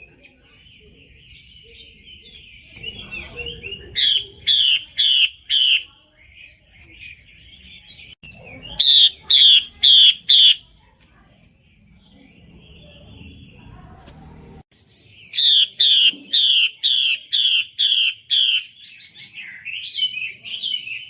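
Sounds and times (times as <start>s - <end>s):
bird twittering and calling: 0.0s - 14.0s, 14.8s - 21.0s.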